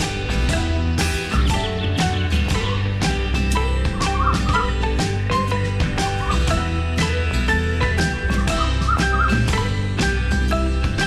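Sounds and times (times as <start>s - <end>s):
background music with beat and bass: 0.0s - 11.0s.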